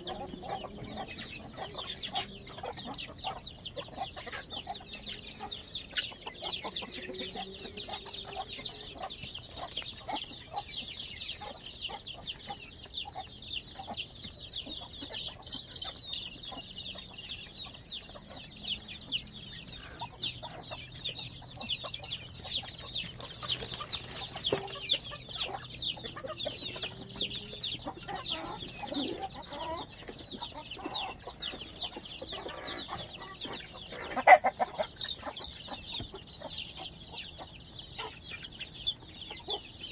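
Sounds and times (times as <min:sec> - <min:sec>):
chicks peeping: 0:00.0 - 0:39.9
hens clucking: 0:00.0 - 0:39.9.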